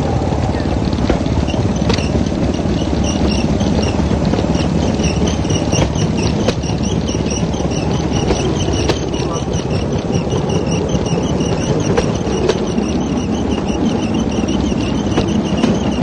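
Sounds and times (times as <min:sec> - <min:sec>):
small petrol engine running: 0:00.0 - 0:16.0.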